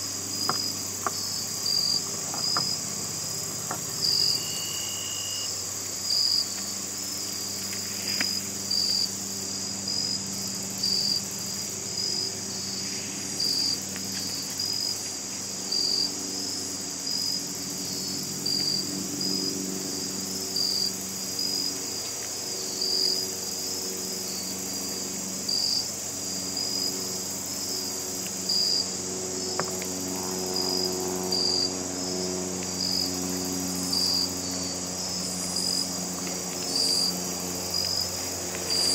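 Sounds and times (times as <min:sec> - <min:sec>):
crickets trilling: 0:00.0 - 0:38.9
louder insect chirp: 0:00.0 - 0:38.9.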